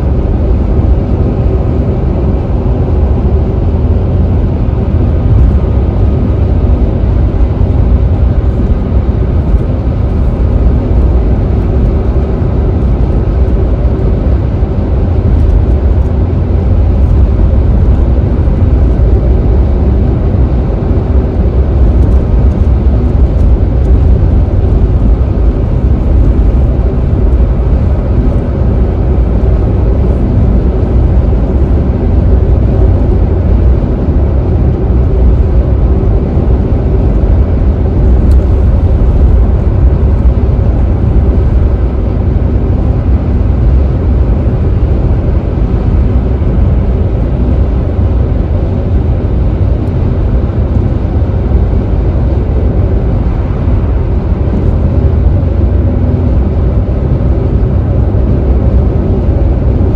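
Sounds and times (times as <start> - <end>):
car engine drone: 0.0 - 59.9
road and tyre noise: 0.0 - 59.9.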